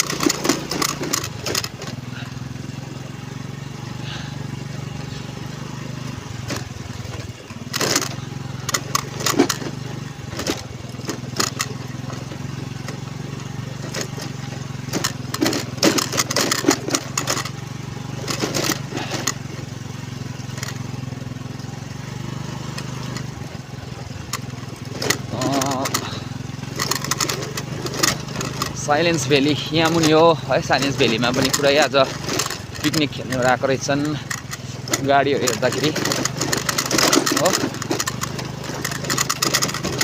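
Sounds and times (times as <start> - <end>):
rattling and knocking: 0.0 - 2.3, 5.0 - 21.8, 22.5 - 40.0
small motorbike engine running: 0.0 - 40.0.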